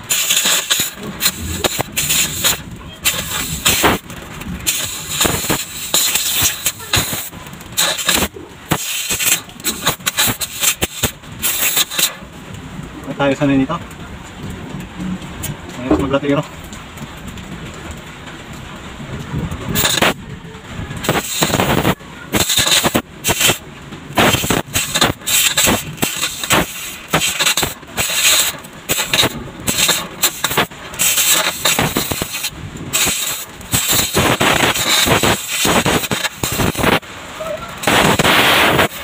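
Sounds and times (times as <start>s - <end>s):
arc welder crackling: 0.0s - 39.0s.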